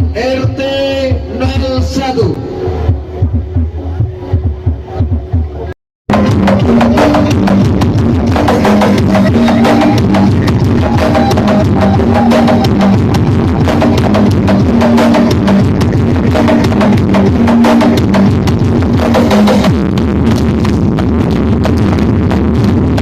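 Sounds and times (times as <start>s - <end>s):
loud music with fast drum beat: 0.0s - 23.0s.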